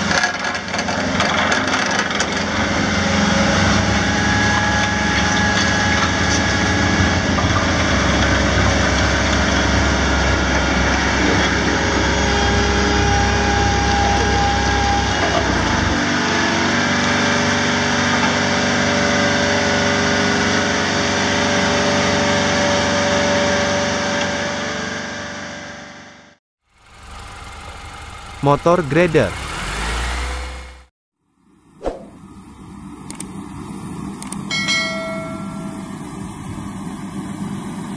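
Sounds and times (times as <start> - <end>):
diesel engine running: 0.0 - 30.9, 32.1 - 37.9.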